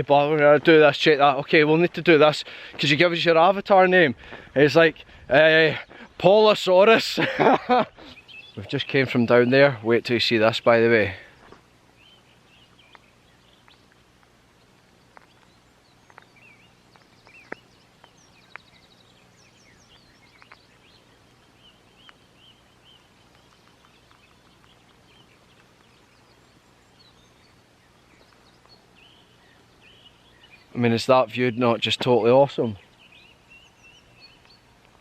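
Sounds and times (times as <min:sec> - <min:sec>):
small birds chirping and trilling: 0:00.0 - 0:35.0.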